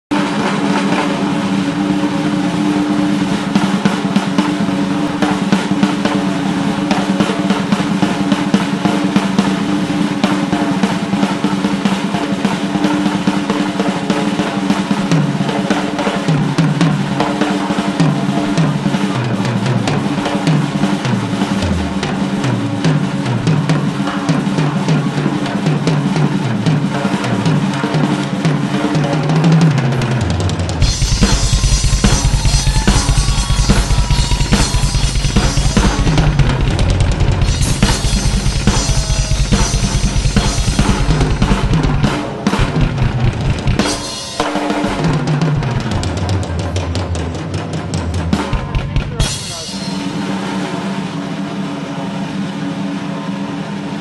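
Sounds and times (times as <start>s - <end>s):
drum kit rolls: 0.1s - 54.0s.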